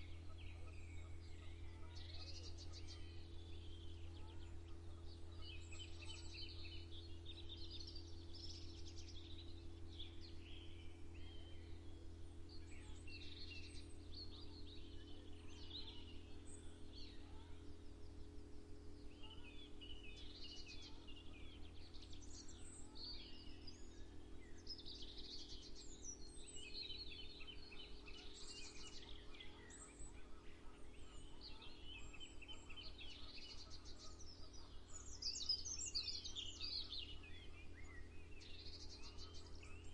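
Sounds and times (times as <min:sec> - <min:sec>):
songbirds chirping and trilling: 0:00.0 - 0:39.9
steady low hum: 0:00.0 - 0:39.9.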